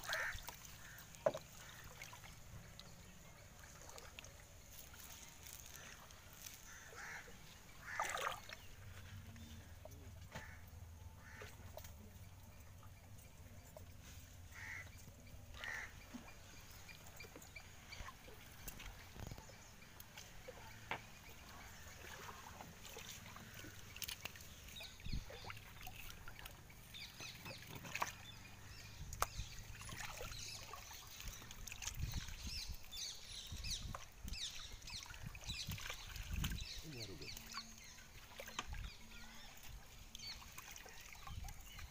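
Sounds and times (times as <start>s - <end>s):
water splashing and sloshing: 0.0s - 41.9s.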